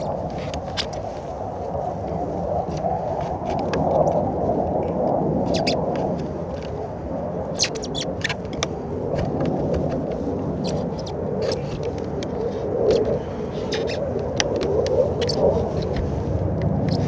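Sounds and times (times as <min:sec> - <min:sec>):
steady rumbling background noise: 0:00.0 - 0:17.0.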